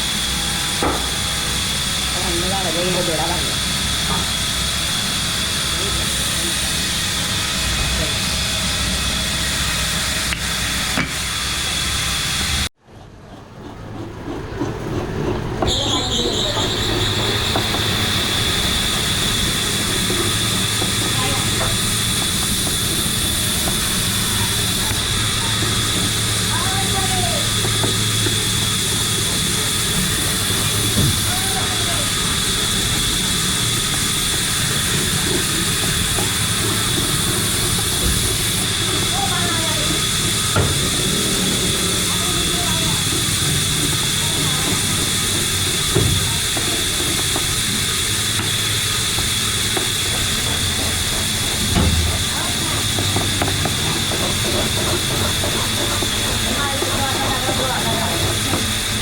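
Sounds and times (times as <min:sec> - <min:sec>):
machinery with high-pitched whine: 0:00.0 - 0:59.0.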